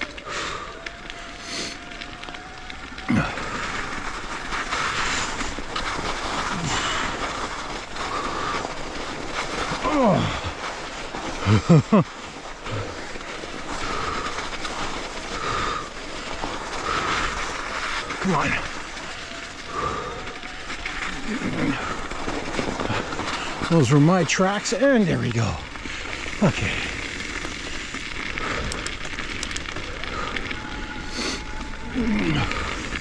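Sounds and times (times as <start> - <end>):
bike tyres crunching on gravel: 0.0 - 33.0.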